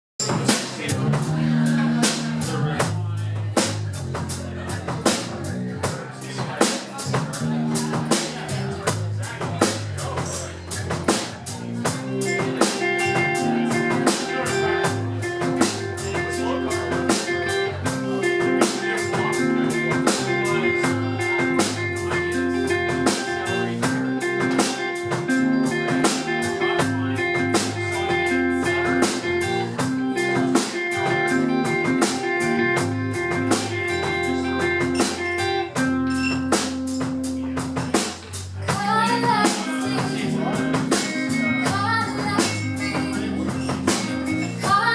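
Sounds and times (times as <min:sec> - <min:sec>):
blues-rock guitar and drums: 0:00.2 - 0:44.9.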